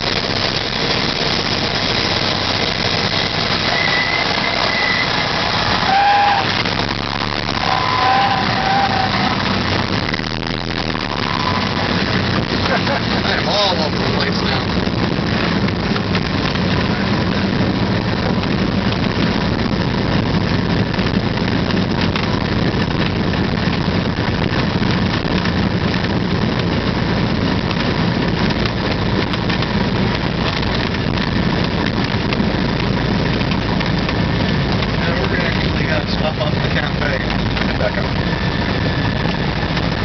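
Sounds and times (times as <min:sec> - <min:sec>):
propeller engine idling: 0:00.0 - 0:25.4, 0:26.2 - 0:40.0.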